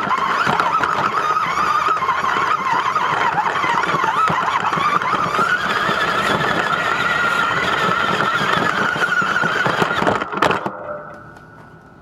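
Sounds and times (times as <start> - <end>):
toy truck motor whining: 0.0 - 10.6
wheels rattling on ground: 0.0 - 11.7.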